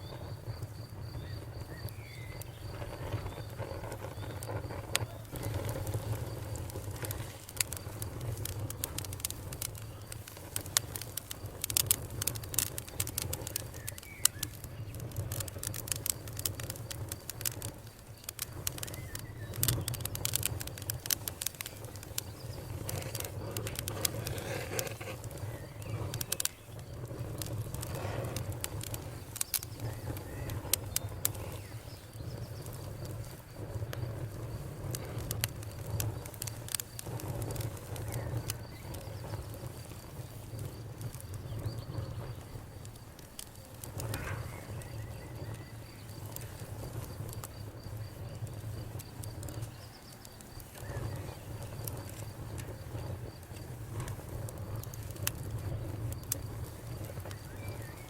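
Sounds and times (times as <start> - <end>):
burning wood crackling and popping: 0.0 - 58.0
low rush of flame: 0.0 - 58.0.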